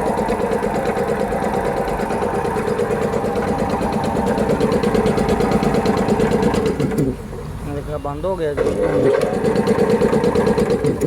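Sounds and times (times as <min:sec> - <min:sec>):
piston air compressor running: 0:00.0 - 0:07.3, 0:08.6 - 0:11.0.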